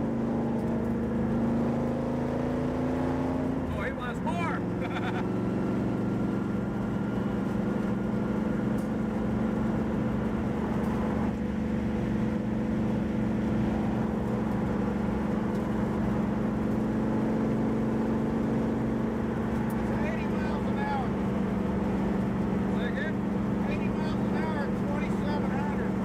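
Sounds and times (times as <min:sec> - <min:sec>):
car engine cruising: 0:00.0 - 0:26.0
tyre and road noise: 0:00.0 - 0:26.0.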